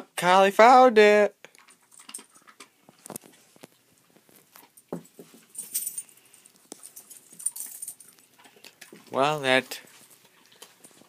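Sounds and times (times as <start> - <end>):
dog paws clicking and tapping: 1.6 - 11.0.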